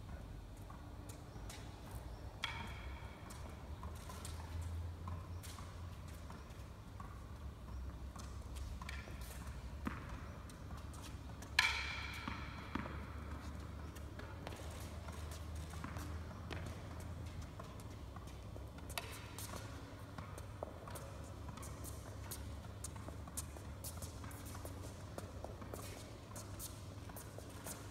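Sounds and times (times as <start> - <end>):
tennis ball pinging off racket: 0.7 - 26.0.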